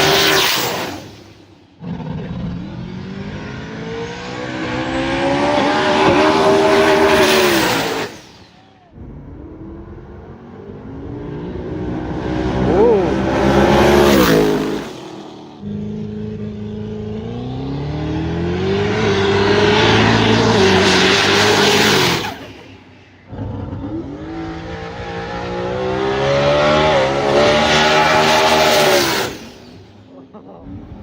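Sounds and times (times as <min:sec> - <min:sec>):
drag racing car accelerating: 0:00.0 - 0:31.0.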